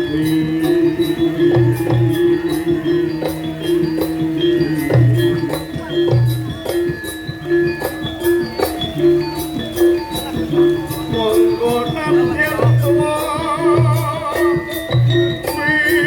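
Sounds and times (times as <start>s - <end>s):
jingling percussion: 0.0s - 16.0s.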